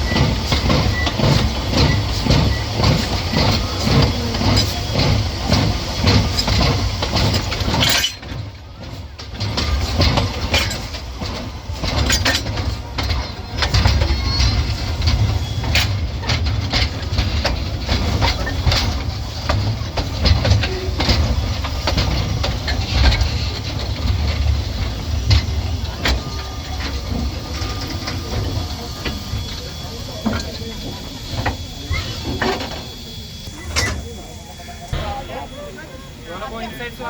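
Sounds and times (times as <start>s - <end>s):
low train rumble: 0.0s - 37.0s
train wheels clicking on track: 0.0s - 37.0s.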